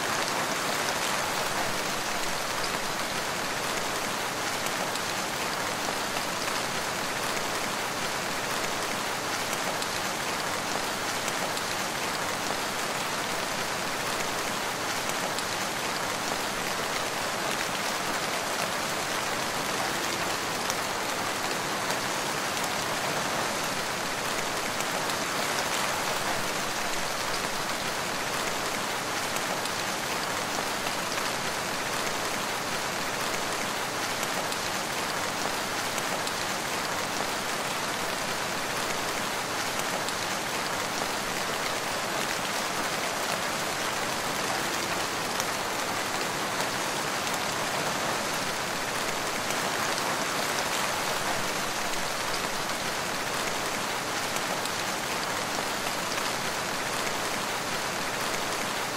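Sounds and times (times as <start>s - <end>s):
rain on leaves and ground: 0.0s - 58.9s.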